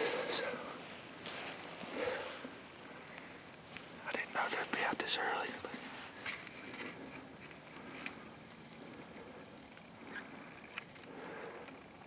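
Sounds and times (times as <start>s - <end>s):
rustling over dry grass and leaves: 0.0s - 11.8s.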